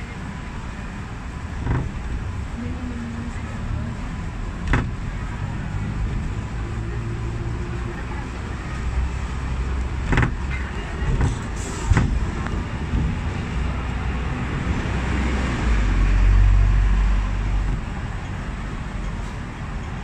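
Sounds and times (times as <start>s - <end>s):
tram rumbling on tracks: 0.0s - 20.0s.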